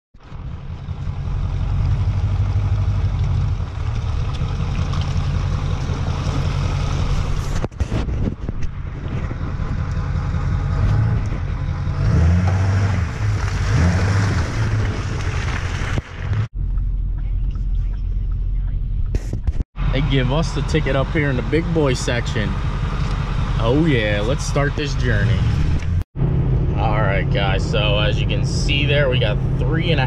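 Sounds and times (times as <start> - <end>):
tyres working through mud: 0.2 - 18.0, 19.8 - 26.0
truck engine rumble: 0.2 - 30.0.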